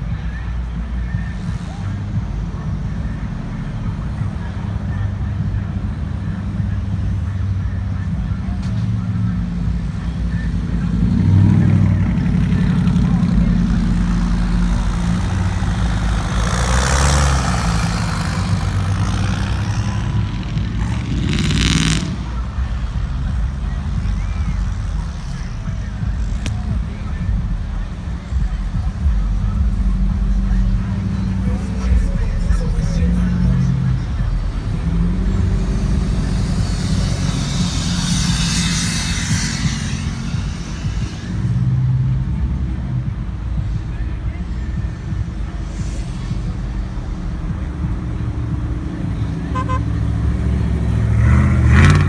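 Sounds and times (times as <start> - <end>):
rush of noise: 0.0 - 52.0
trucks driving by: 0.0 - 52.0.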